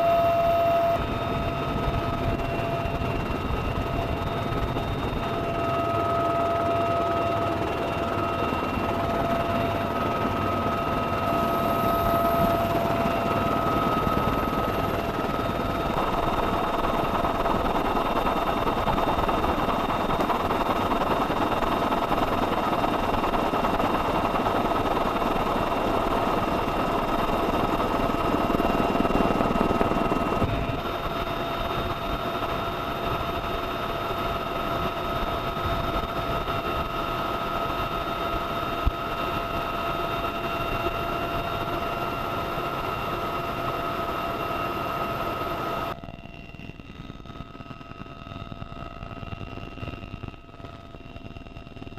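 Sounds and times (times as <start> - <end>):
helicopter running: 0.0 - 51.9.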